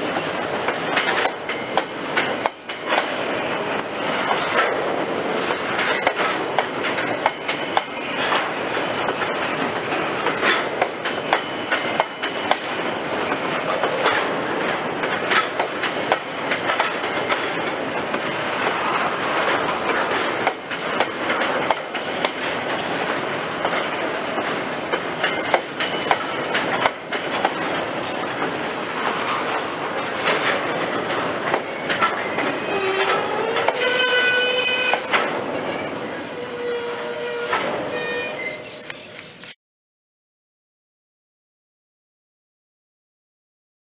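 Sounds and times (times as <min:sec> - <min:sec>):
train wheels clattering over rail joints: 0:00.0 - 0:39.5.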